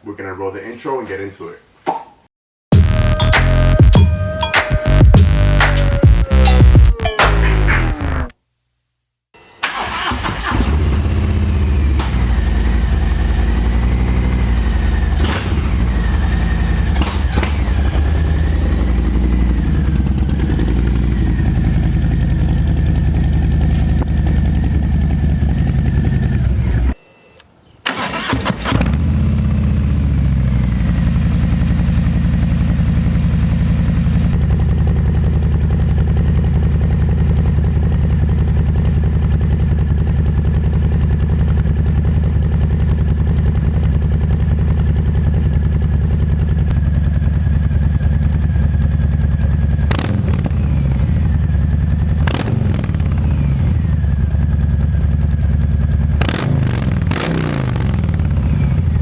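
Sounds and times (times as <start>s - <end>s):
motorcycle engine idling: 9.8s - 27.0s, 28.9s - 59.0s.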